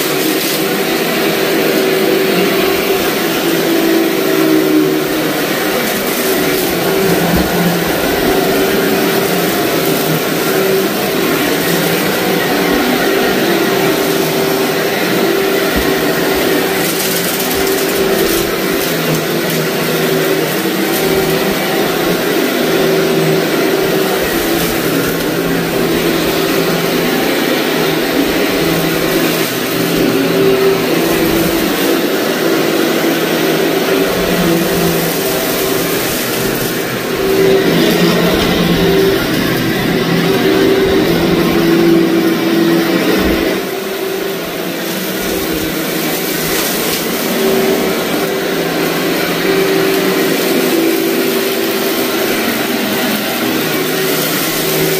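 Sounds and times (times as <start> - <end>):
grit crunching in vacuum brush: 0.0 - 54.9
vacuum cleaner running: 0.0 - 54.9.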